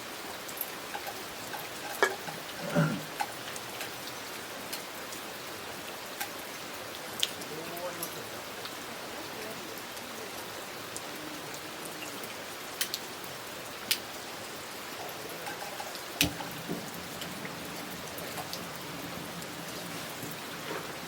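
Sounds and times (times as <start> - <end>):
heavy raindrops striking: 0.0 - 21.0
steady rain falling: 0.0 - 21.0.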